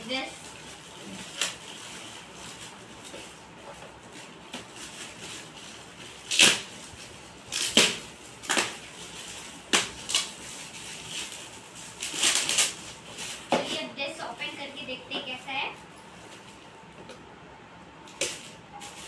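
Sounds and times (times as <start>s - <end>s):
plastic wrapping crinkling: 0.0s - 16.9s, 18.0s - 19.0s.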